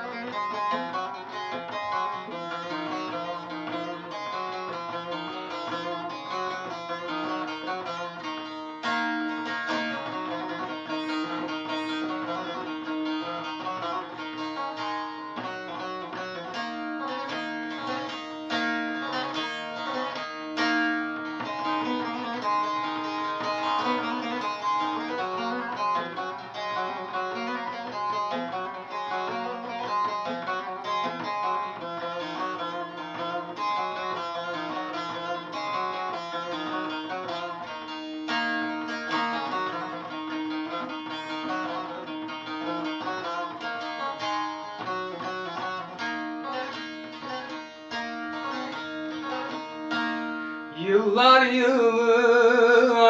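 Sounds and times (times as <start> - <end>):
plucked lute melody: 0.0 - 53.0.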